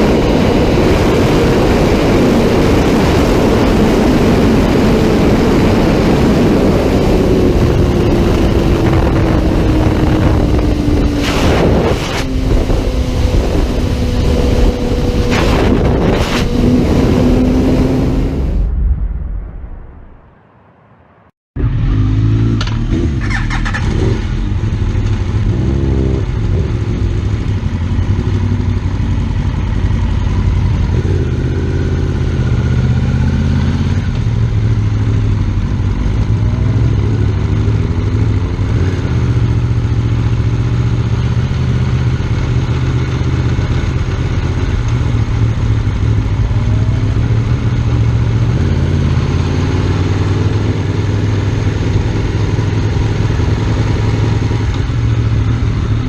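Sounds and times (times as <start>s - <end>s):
motorcycle engine running: 0.0s - 18.7s, 21.6s - 56.0s.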